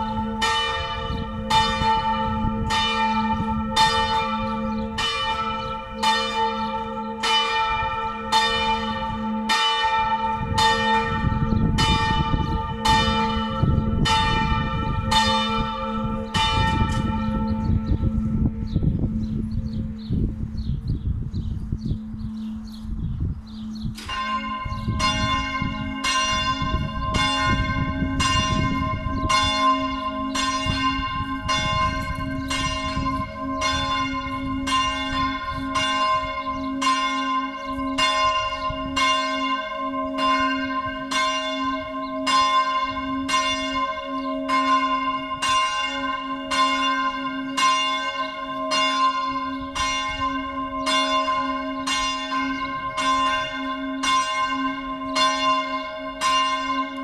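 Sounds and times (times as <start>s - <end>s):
church bells ringing: 0.0s - 57.0s.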